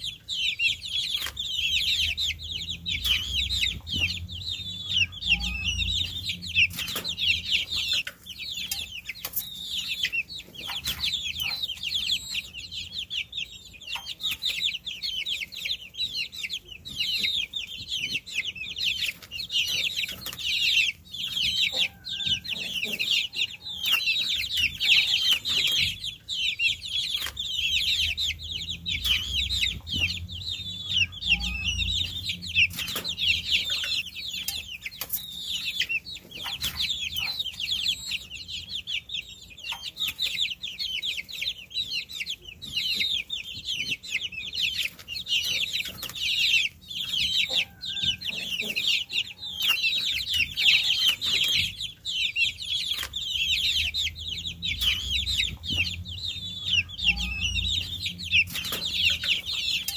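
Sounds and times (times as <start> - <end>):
baby chicks peeping: 0.0 - 59.9.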